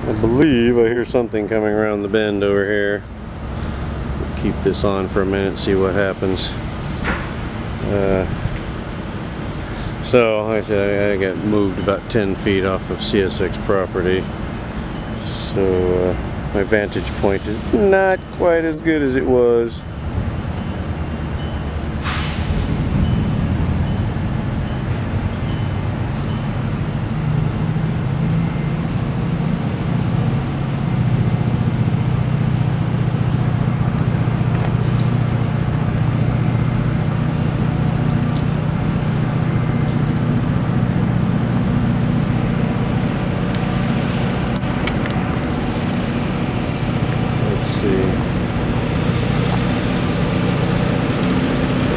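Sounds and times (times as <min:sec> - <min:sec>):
diesel locomotive engine drone: 0:00.0 - 0:51.9.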